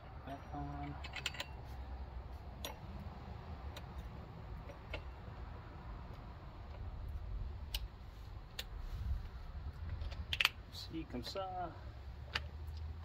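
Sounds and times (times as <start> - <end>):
low steady background hum: 0.0 - 13.0
light clicks and taps of metal parts: 0.5 - 13.0.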